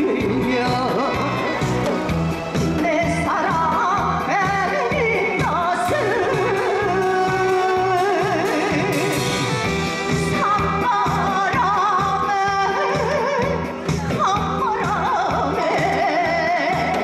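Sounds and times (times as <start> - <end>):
woman singing into microphone: 0.0 - 9.3, 10.3 - 17.0
backing track with steady beat: 0.0 - 17.0.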